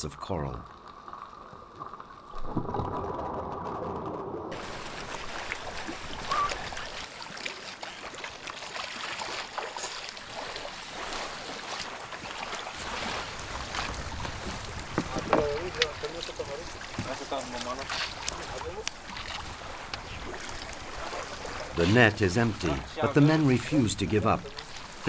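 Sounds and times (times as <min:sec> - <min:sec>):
water splashing and dripping: 0:00.6 - 0:25.0.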